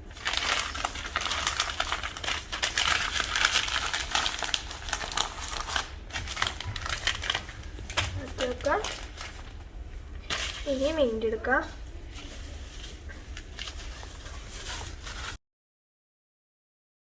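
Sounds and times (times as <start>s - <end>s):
wrapping material crinkling: 0.0s - 15.4s.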